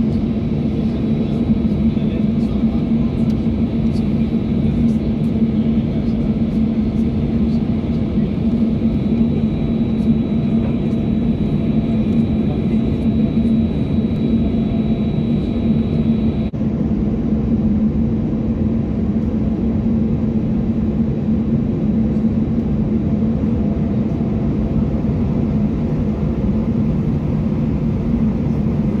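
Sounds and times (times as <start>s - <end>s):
constant low hum: 0.0s - 29.0s
jet airliner cabin drone: 0.0s - 29.0s.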